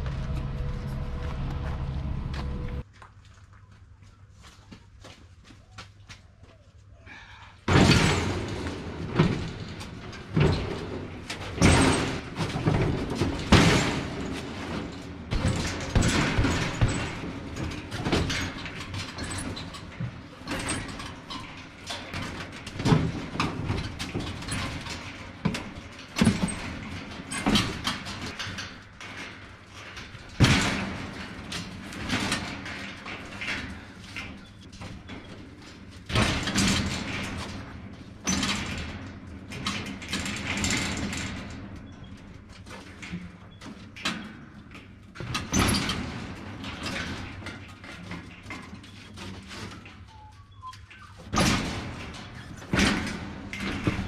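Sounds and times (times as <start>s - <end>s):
sheet metal clattering: 7.7s - 54.0s.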